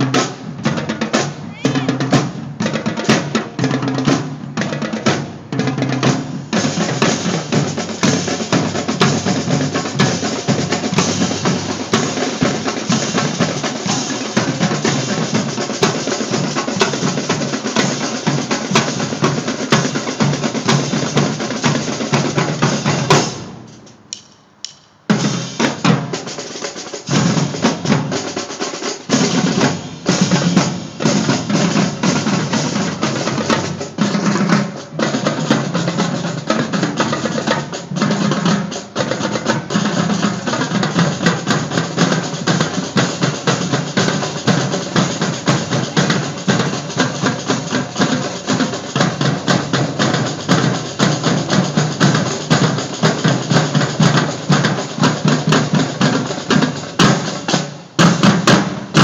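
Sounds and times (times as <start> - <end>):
marching snare and bass drums: 0.0 - 59.0.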